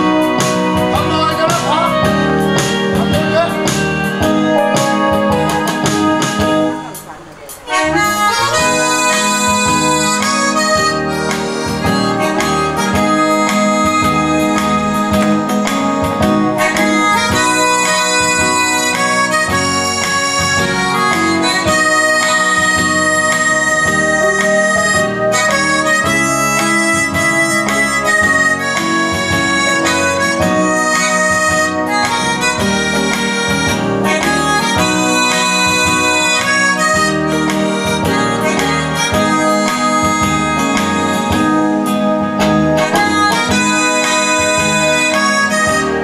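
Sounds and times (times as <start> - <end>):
harmonica melody: 0.0 - 46.0
musical accompaniment: 0.0 - 46.0.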